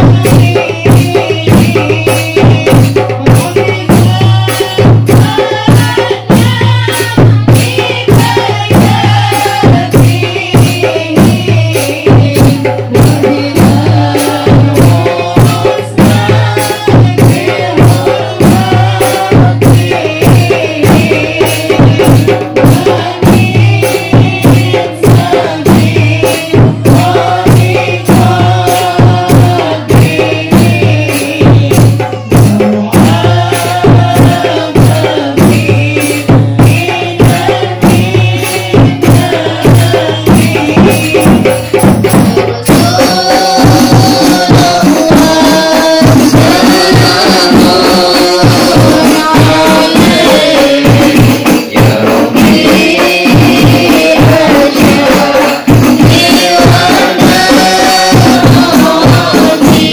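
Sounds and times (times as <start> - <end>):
frame drums beating: 0.0 - 59.9
women singing in unison: 0.0 - 59.9.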